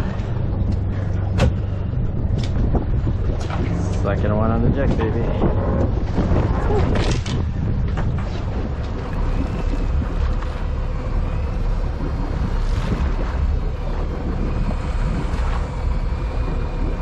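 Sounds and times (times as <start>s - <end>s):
constant low rumble: 0.0s - 17.0s
water washing against hull: 0.0s - 17.0s
wind buffeting microphone: 0.0s - 17.0s.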